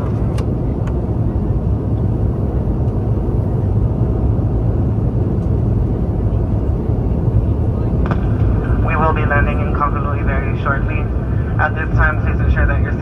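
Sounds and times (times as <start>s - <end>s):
airplane cabin airflow and engine roar: 0.0s - 13.0s.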